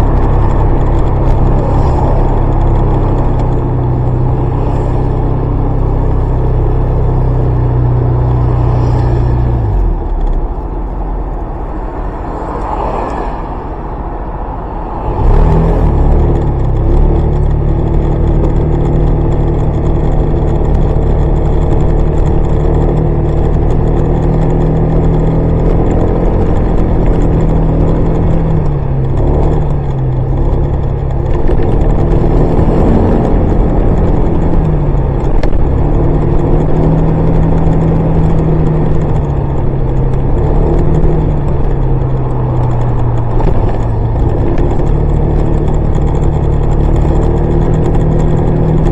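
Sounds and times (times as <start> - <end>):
scooter engine running: 0.0 - 11.6, 15.8 - 48.9.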